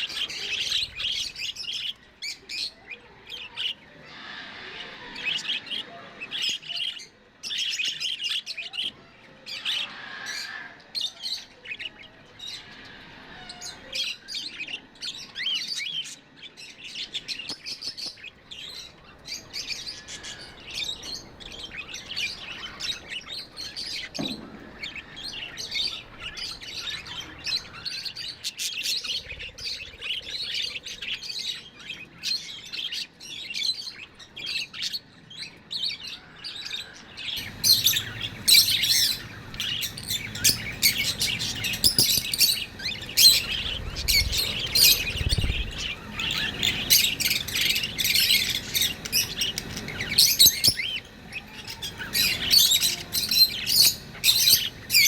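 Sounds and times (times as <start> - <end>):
budgies chirping: 0.0 - 55.0.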